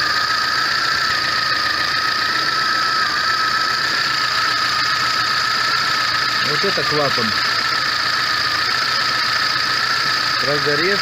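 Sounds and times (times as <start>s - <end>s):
constant high whine: 0.0s - 11.0s.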